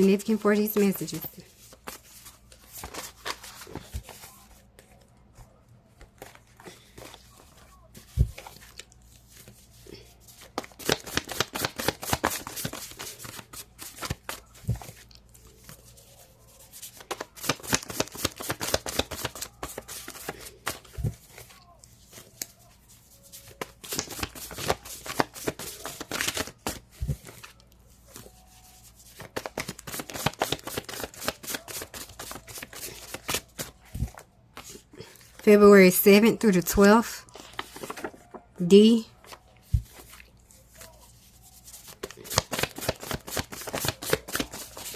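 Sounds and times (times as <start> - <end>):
cards riffle shuffling: 0.8 - 5.0, 6.1 - 22.6, 23.4 - 28.2, 28.9 - 35.4, 37.3 - 38.3, 39.2 - 44.9.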